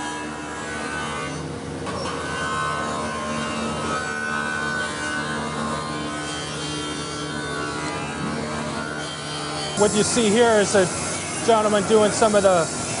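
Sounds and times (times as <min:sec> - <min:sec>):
grinder wheel grinding cast iron: 0:00.0 - 0:13.0
motor whine: 0:00.0 - 0:13.0.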